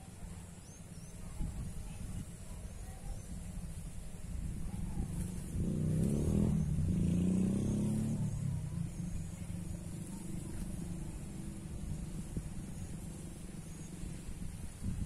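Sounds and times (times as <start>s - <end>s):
motor engine passing by: 0.0s - 15.0s
steady low rumble: 0.0s - 15.0s.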